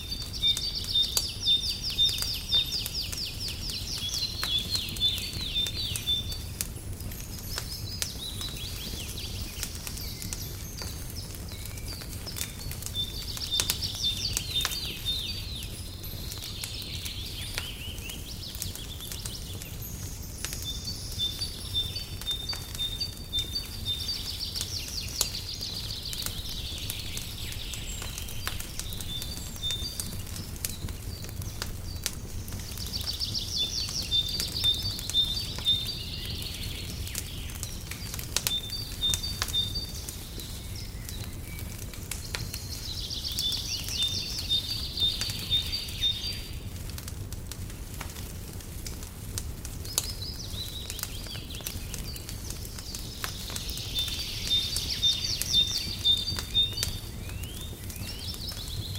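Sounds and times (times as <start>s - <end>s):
birds chirping and trilling: 0.0s - 46.7s, 49.8s - 58.9s
wood fire crackling: 0.0s - 58.9s.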